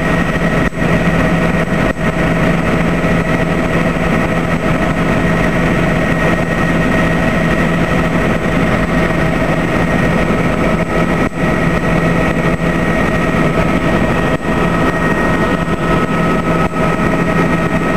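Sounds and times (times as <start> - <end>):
helicopter engine and rotor drone: 0.0 - 17.9.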